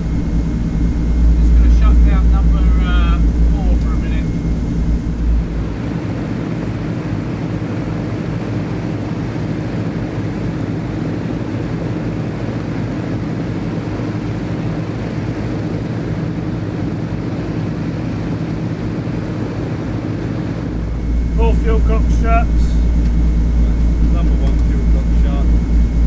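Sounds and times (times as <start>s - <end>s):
aircraft piston engines droning: 0.0s - 26.0s.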